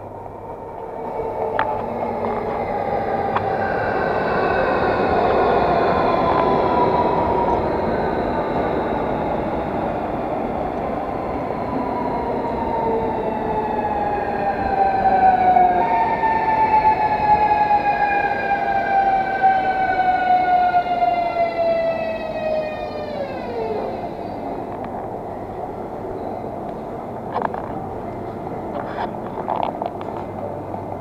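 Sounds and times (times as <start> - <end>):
train traction drive whine: 0.0 - 31.0
wheels rumbling on rail: 0.0 - 31.0.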